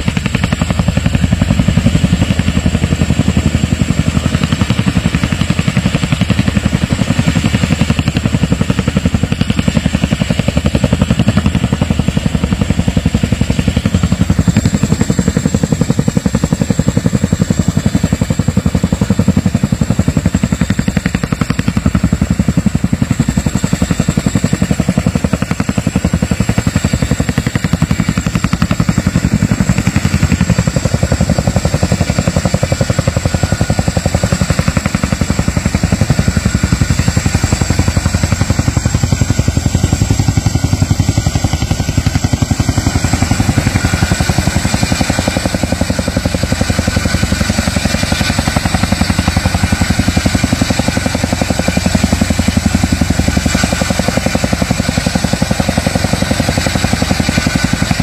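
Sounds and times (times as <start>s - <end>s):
helicopter rotor-blade chop: 0.0s - 58.0s.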